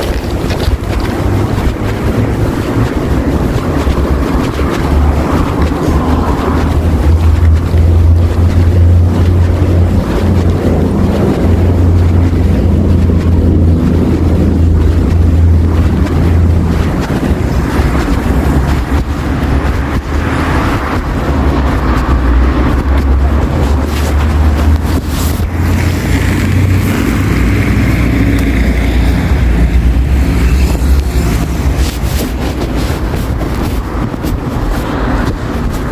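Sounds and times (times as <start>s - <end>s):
heavy engine rumble: 0.0s - 35.9s.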